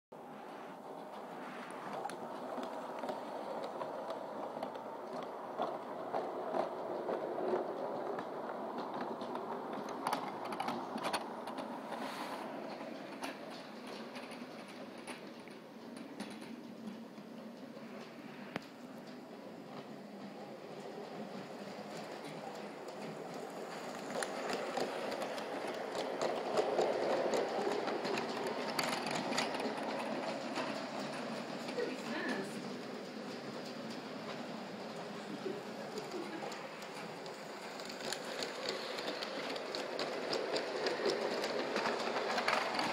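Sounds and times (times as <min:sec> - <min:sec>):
sharp clicks of train: 0:00.8 - 0:42.9.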